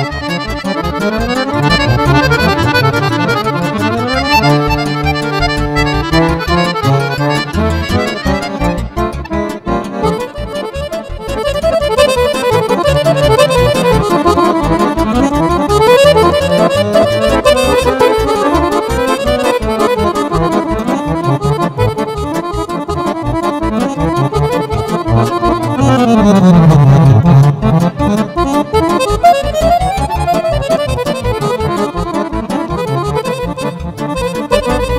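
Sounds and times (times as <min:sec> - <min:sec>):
accordion fast melodic runs: 0:00.0 - 0:34.9
steady pulsing bass: 0:00.0 - 0:34.9.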